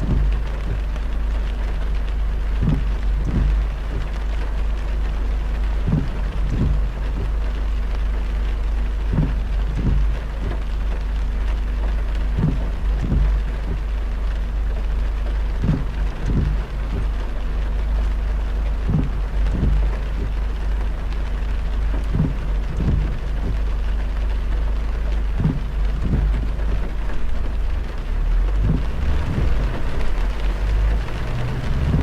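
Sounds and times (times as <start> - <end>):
short low thumps: 0.0 - 7.6, 8.8 - 11.1, 11.9 - 20.9, 21.8 - 32.0
heavy rain on a car: 0.0 - 32.0
road rumble: 0.0 - 32.0.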